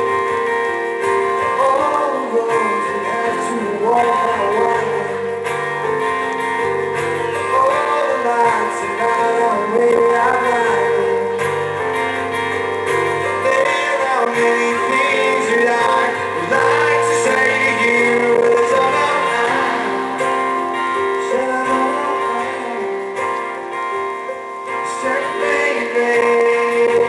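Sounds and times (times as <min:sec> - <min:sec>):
keyboard: 0:00.0 - 0:27.0
strummed guitar: 0:00.0 - 0:27.0
man singing lead vocal: 0:01.4 - 0:06.4, 0:07.3 - 0:12.2, 0:13.2 - 0:23.6, 0:24.7 - 0:27.0.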